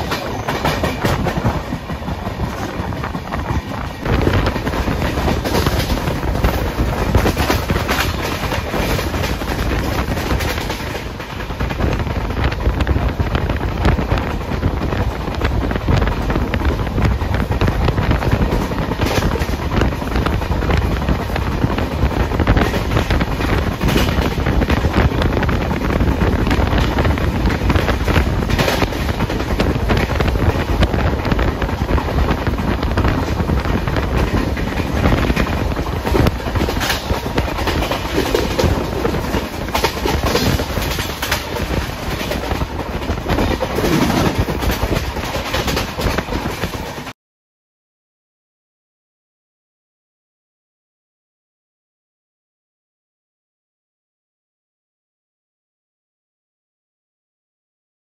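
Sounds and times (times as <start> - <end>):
wind buffeting microphone: 0.0 - 47.1
train wheels clattering on rails: 0.0 - 47.2.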